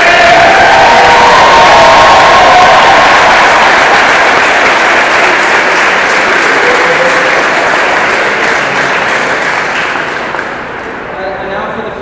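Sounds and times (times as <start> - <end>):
crowd applauding: 0.0 - 10.9.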